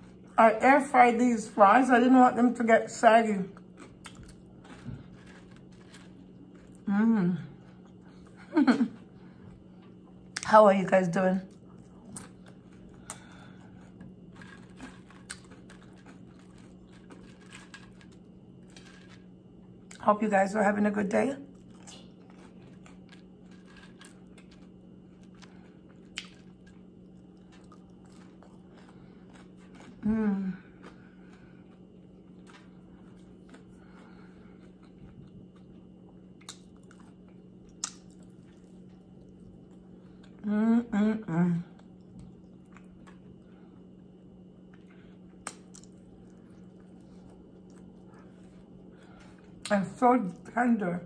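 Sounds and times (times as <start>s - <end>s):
chewing crunchy fries: 0.0s - 50.9s
faint low hum: 0.0s - 51.0s.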